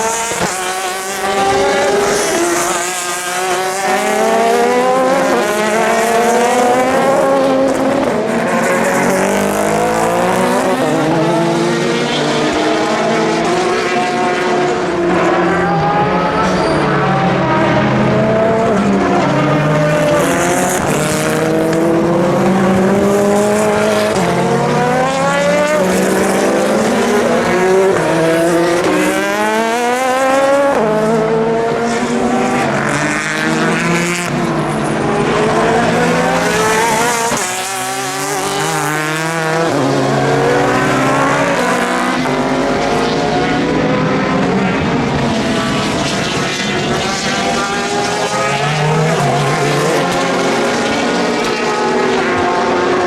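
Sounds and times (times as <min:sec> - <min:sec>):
race car engines passing: 0:00.0 - 0:53.0.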